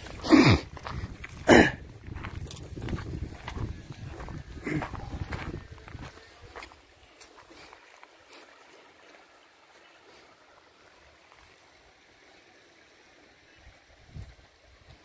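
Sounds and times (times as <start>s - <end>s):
shallow stream rushing: 2.7s - 15.0s.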